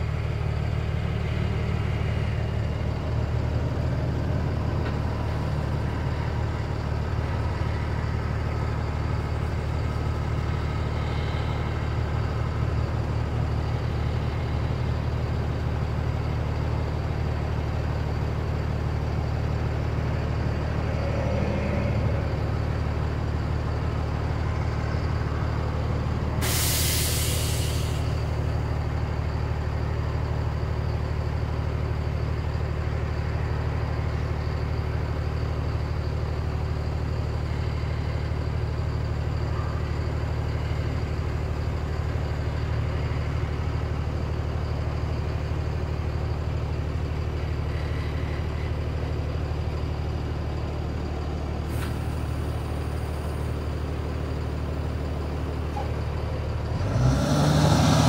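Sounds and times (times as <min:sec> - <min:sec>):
diesel bus engine idling: 0:00.0 - 0:58.0.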